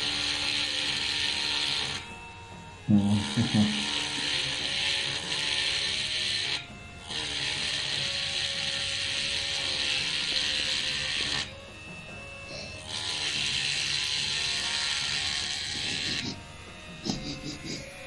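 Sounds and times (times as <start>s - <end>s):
rotary tool drilling whir: 0.0s - 18.0s.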